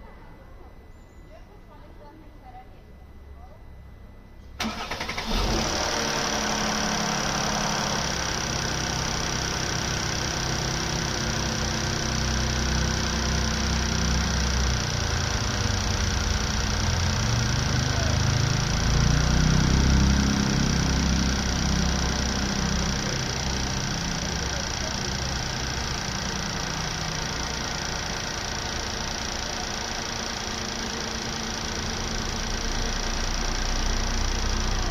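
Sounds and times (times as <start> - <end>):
engine idling: 4.6 - 34.9
engine ticking: 4.6 - 34.9.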